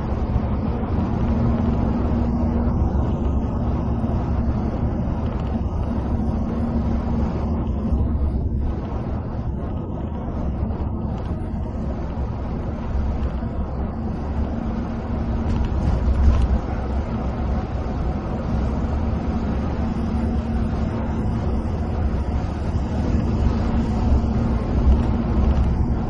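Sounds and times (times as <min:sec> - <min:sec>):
coach engine droning: 0:00.0 - 0:26.0
tyres rumbling on road: 0:00.0 - 0:26.0.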